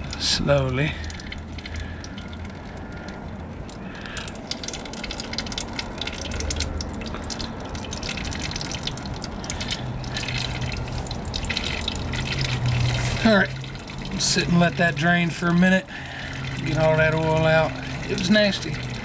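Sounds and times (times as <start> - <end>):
oil pouring into a pan: 0.0 - 19.0.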